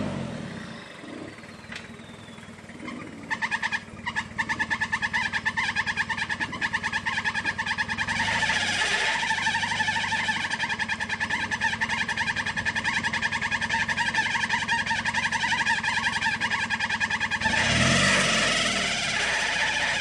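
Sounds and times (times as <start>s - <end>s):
car engine pulsing under load: 0.0s - 20.0s.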